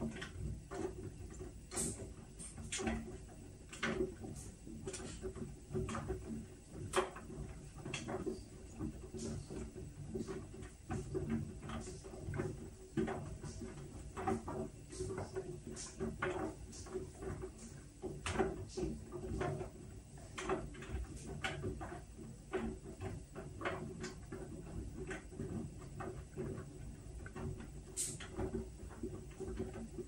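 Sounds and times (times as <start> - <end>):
soft knocks and clicks: 0.0 - 30.0
washing machine humming: 0.0 - 30.0.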